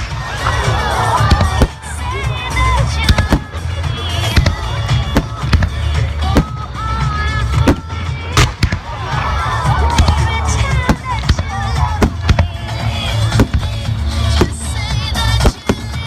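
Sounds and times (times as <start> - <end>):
fireworks bangs and cracks: 0.0 - 6.7, 7.5 - 16.0
loud music with heavy bass: 0.0 - 16.0.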